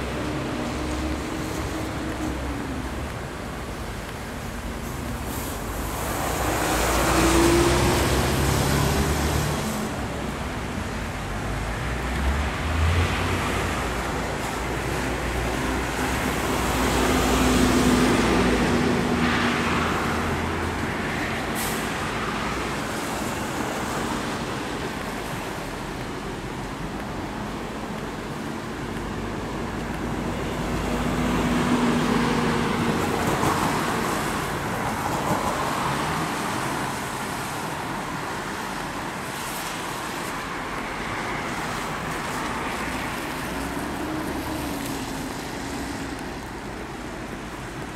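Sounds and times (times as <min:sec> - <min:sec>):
road traffic passing: 0:00.0 - 0:47.9.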